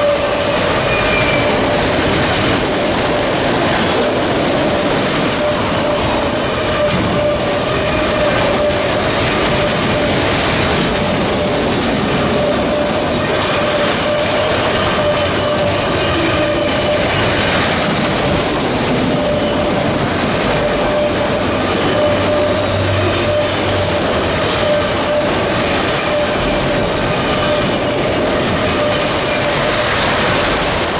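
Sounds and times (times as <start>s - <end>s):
freight train rumbling past: 0.0s - 30.9s
train wheels clicking over rails: 0.0s - 30.9s.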